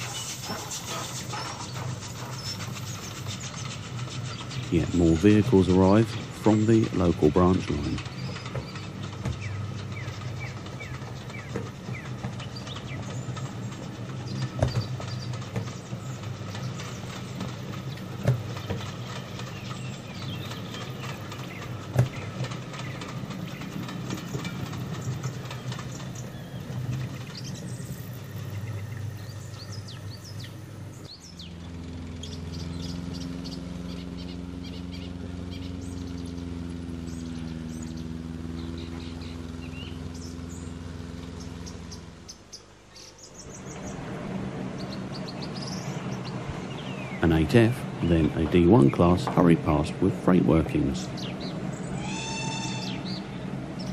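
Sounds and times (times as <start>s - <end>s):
birds chirping: 0.0s - 53.9s
low droning hum: 0.0s - 53.9s
train rolling past: 0.0s - 53.9s.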